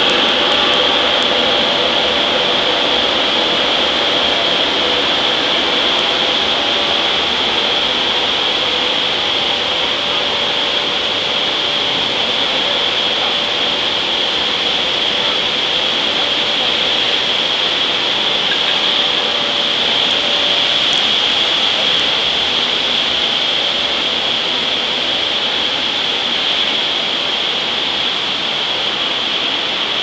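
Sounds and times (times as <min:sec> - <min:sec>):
industrial machinery whining: 0:00.0 - 0:30.0.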